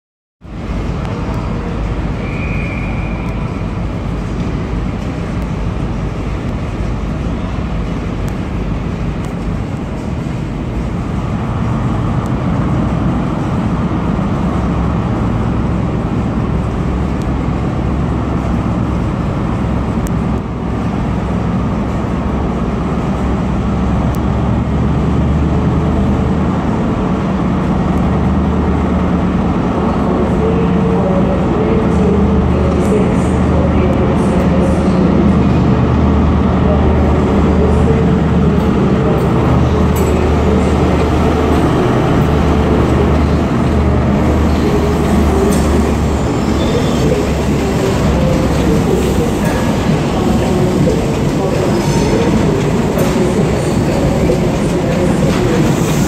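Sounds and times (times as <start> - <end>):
train diesel engines droning: 0.4 - 56.0.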